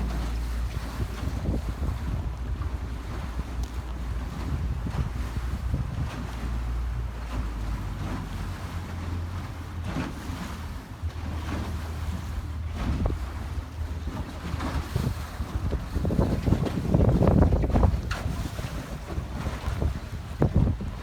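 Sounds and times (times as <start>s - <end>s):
boat engine droning: 0.0s - 21.0s
water washing around boat: 0.0s - 21.0s
wind buffeting microphone: 0.0s - 21.0s.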